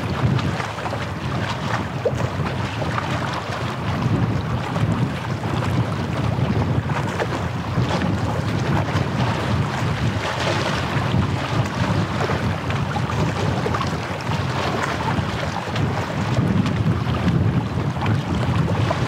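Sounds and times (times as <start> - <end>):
sea water lapping at shore: 0.0 - 19.0
wind buffeting microphone: 0.0 - 19.0.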